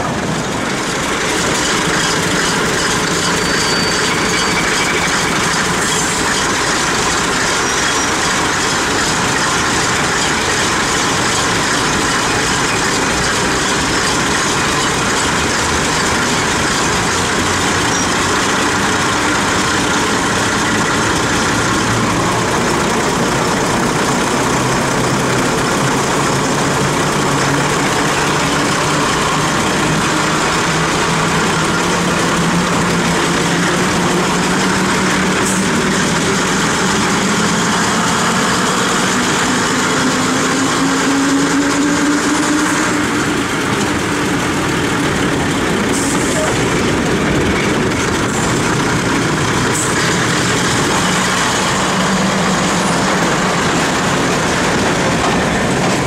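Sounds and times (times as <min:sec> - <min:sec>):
diesel train engine pulling: 0:00.0 - 0:56.0
rush of wind and train noise: 0:00.0 - 0:56.0.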